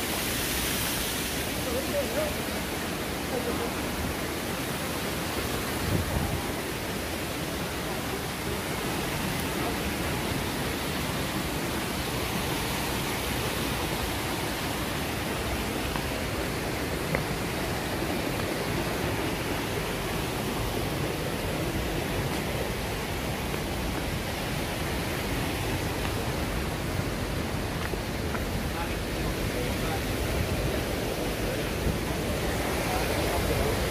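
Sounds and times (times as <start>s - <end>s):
stream cascading over rocks: 0.0s - 33.9s.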